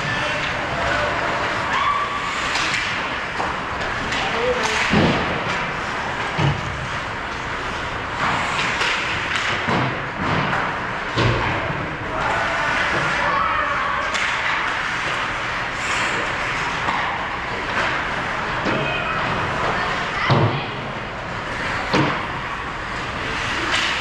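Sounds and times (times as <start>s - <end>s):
skates scraping ice: 0.0s - 10.7s, 12.2s - 20.2s, 21.4s - 24.0s
hockey sticks clacking: 0.0s - 11.6s, 14.0s - 20.5s, 21.5s - 24.0s.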